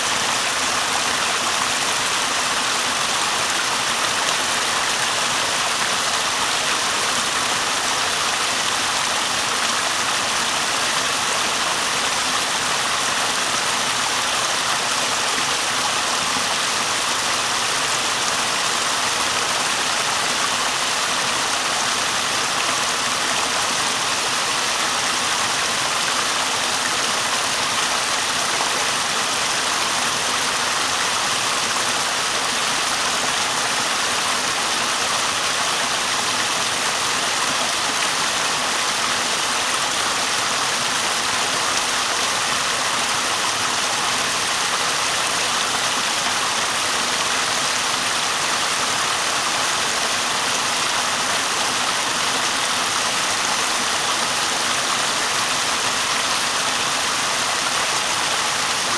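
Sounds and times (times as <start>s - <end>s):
stream rushing and splashing: 0.0s - 58.9s.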